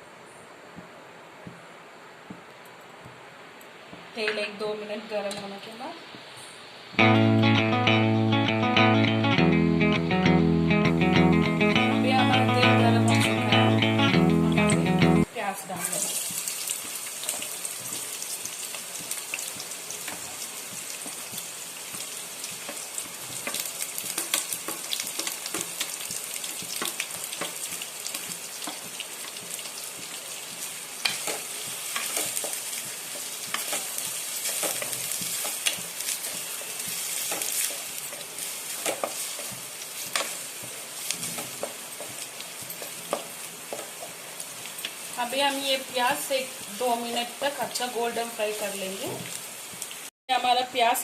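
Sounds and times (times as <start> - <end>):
onions sizzling in oil: 5.6 - 51.0.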